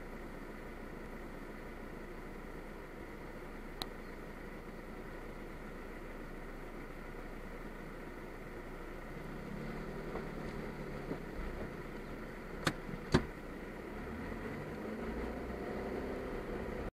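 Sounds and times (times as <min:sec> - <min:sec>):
car engine idling and pulling away: 0:00.0 - 0:16.9.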